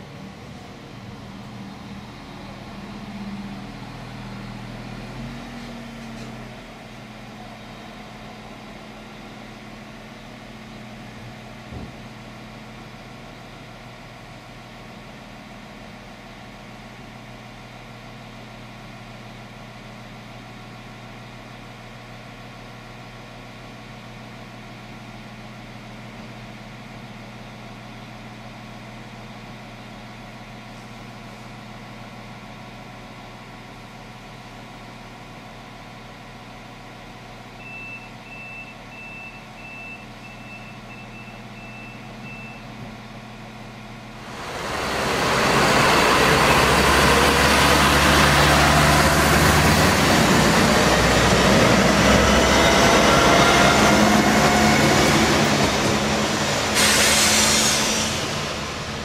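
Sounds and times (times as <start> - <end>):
train diesel engine idling: 0.0 - 5.0, 6.1 - 59.0.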